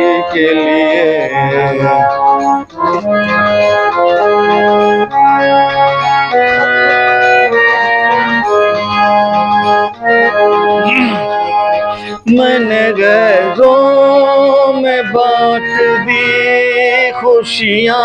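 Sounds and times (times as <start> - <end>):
harmonium playing: 0.0 - 18.0.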